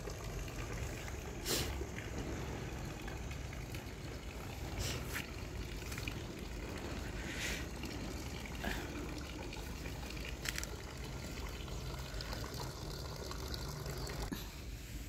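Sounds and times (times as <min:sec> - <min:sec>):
water trickling and splashing: 0:00.0 - 0:14.3.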